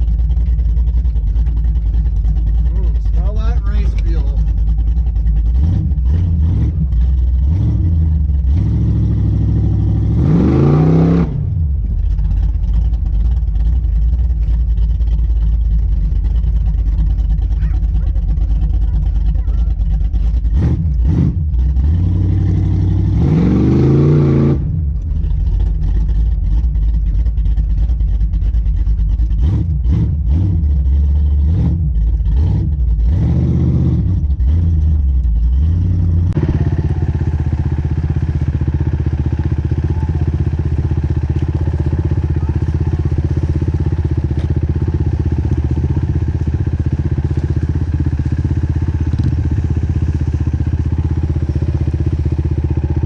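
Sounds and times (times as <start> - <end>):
engine revving: 0.0 - 53.0.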